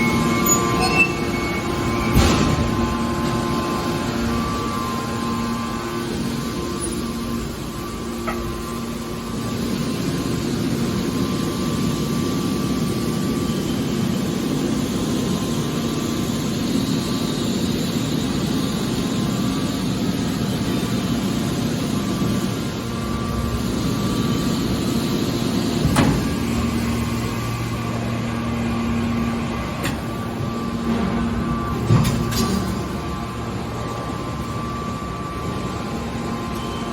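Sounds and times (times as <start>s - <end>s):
machine hum and drone: 0.0s - 36.9s.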